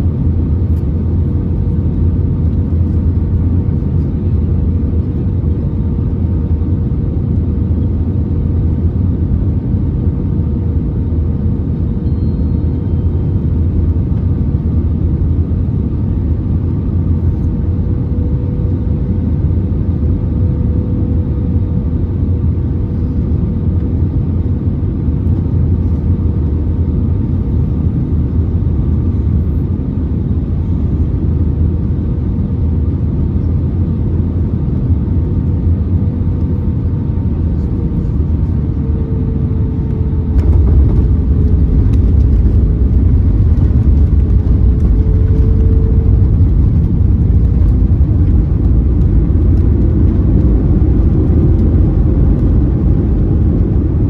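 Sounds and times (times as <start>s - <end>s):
engine and airflow rumble: 0.0s - 54.0s
faint hum: 0.0s - 54.0s.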